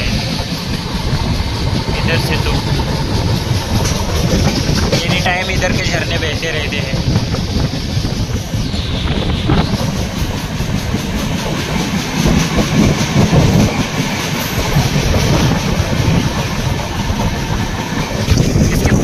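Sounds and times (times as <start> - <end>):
train running noise: 0.0 - 19.0
train wheels clattering over rails: 0.0 - 19.0.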